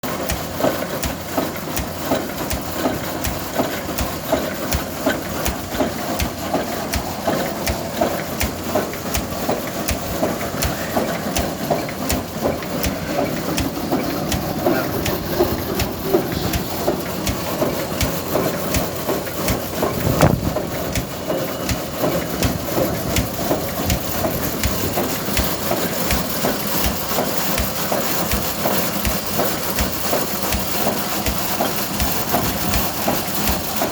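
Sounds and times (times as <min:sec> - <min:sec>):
engine slow knocking beat: 0:00.0 - 0:33.9.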